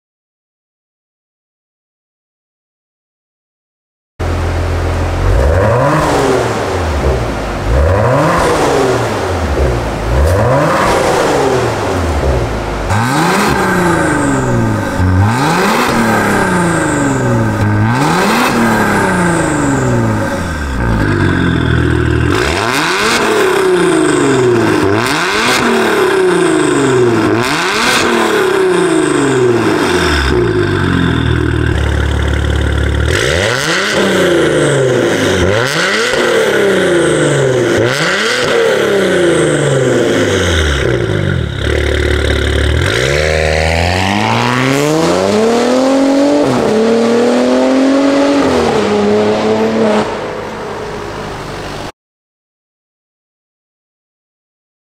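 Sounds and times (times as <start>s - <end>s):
car accelerating hard: 4.2s - 51.9s
car engine revving: 4.2s - 51.9s.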